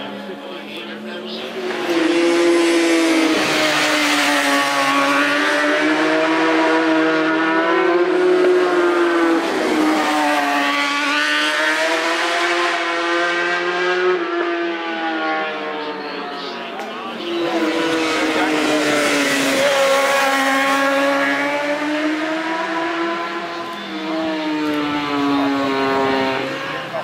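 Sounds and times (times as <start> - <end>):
racing motorcycles at high revs: 1.0 - 16.0, 17.2 - 27.0.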